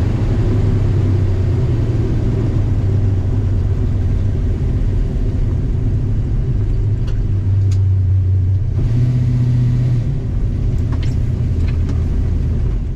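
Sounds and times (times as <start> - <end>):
engine running at low revs: 0.0 - 12.9.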